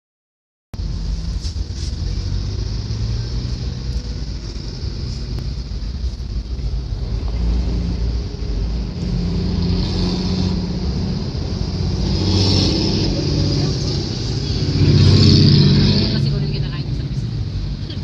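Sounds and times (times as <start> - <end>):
road and engine drone: 0.8 - 18.0
trucks and cars passing: 0.8 - 18.0.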